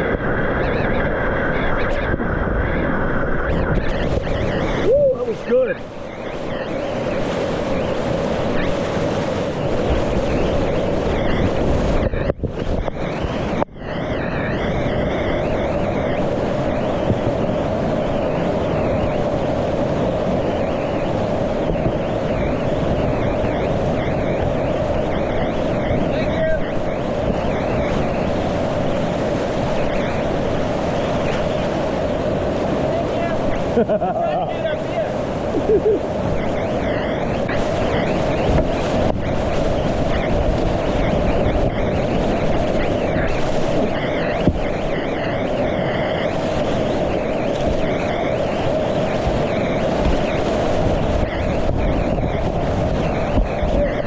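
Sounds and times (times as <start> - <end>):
rushing whitewater rapids: 0.0 - 54.0
wind noise on microphone: 0.0 - 54.0.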